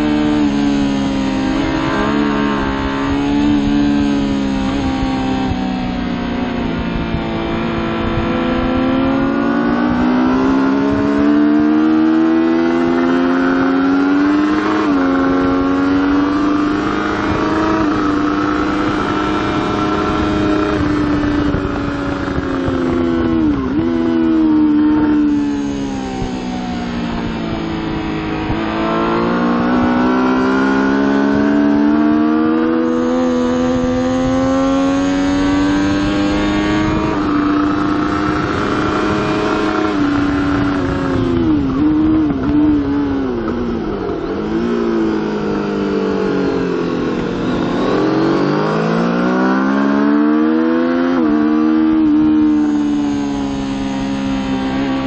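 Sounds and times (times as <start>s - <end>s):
motorcycle engine revving: 0.0s - 55.0s
wind rushing: 0.0s - 55.0s.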